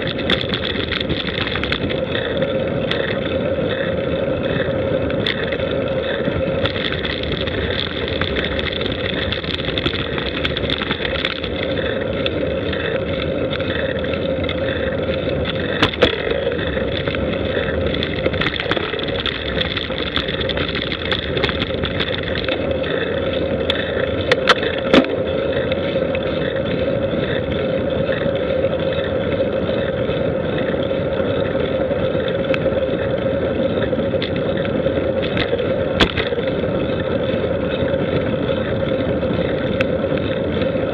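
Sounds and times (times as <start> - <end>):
road noise: 0.0 - 40.9
vehicle motor: 0.0 - 40.9.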